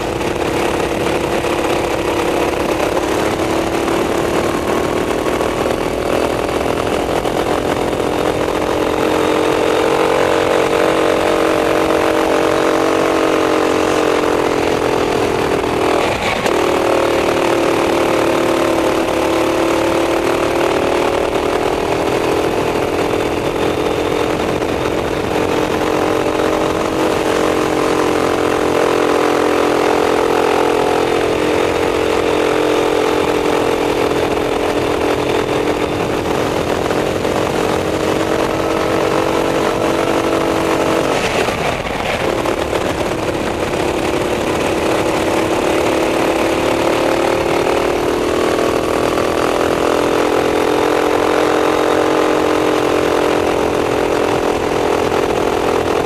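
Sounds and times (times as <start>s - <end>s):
racing kart engine buzzing: 0.0s - 56.0s.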